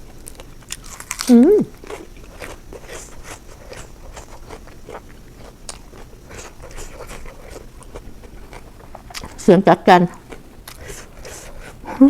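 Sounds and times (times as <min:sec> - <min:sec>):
chewing food with crunches: 0:00.0 - 0:12.0.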